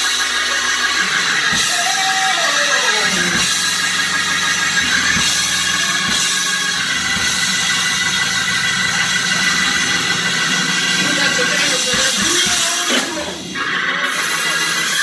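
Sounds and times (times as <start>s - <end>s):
live church band music: 0.0s - 15.0s.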